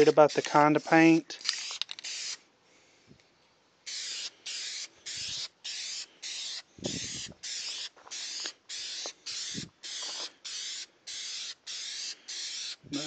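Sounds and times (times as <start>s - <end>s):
aerosol spray can hissing: 0.0s - 2.4s, 3.9s - 13.0s.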